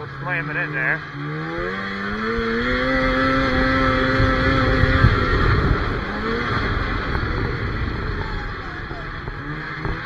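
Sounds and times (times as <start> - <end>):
snowmobile engine revving: 0.0 - 10.0
track and snow rumble: 0.0 - 10.0.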